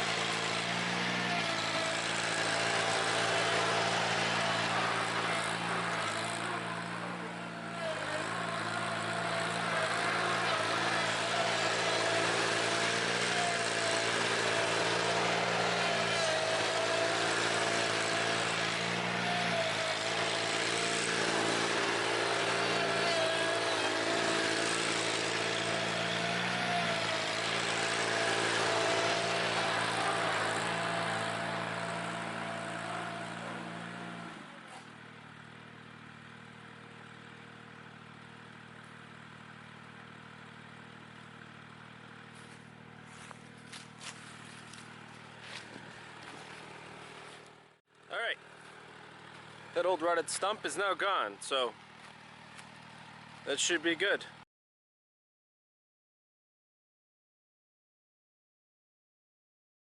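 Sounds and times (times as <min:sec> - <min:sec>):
stump grinder grinding hiss: 0:00.0 - 0:54.4
tractor engine drone: 0:00.0 - 0:54.4.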